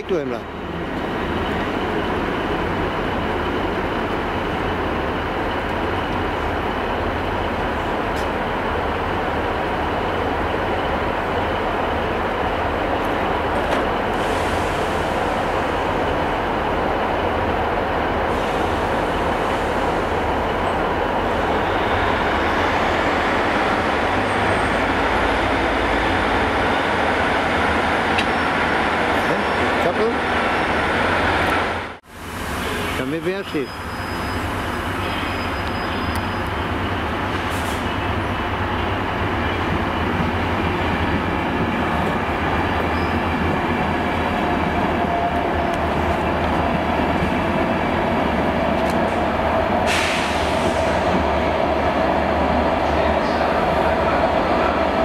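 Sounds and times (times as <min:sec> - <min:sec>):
train engine idling: 0:00.0 - 0:55.0.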